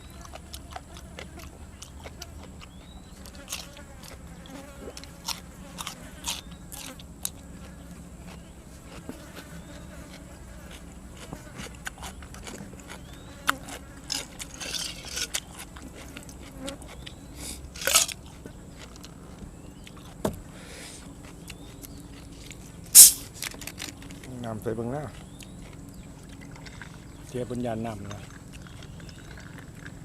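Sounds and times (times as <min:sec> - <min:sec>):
person chewing and crunching food: 0:00.0 - 0:24.4, 0:25.0 - 0:30.0.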